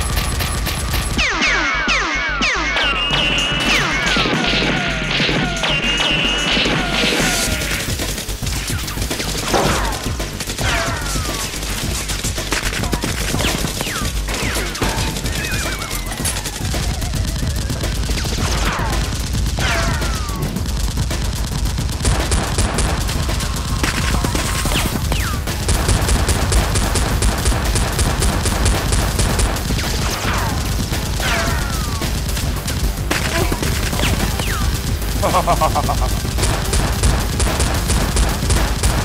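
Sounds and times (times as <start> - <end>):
automatic gunfire: 3.0 - 39.0.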